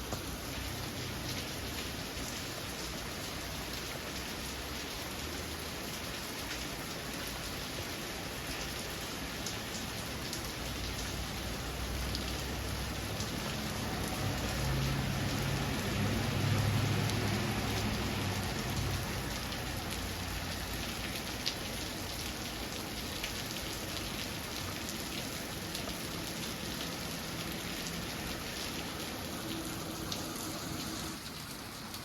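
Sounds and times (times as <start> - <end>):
heavy rain pouring: 0.0 - 32.0
raindrops ticking on surfaces: 0.0 - 32.0.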